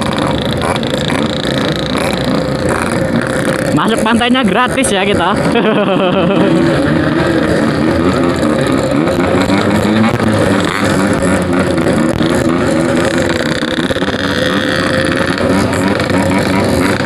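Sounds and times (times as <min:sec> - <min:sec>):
two-stroke motorcycle engine: 0:00.0 - 0:17.0.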